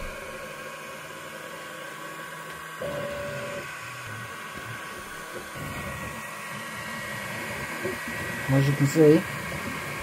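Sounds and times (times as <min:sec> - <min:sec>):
stepper motor whine: 0:00.0 - 0:10.0.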